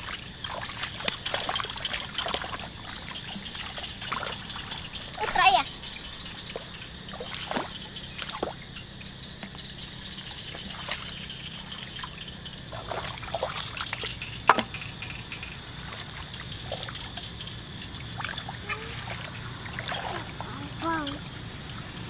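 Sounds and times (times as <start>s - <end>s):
muddy water sloshing: 0.0s - 22.0s
small splashes: 0.0s - 22.0s.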